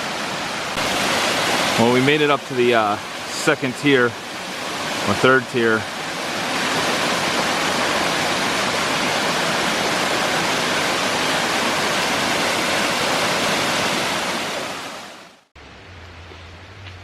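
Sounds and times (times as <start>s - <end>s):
water rushing over rocks: 0.0s - 15.5s.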